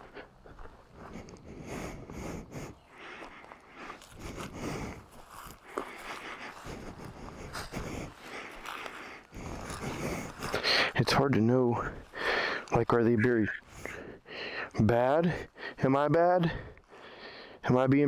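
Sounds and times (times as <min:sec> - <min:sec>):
heavy breathing: 0:00.0 - 0:17.7.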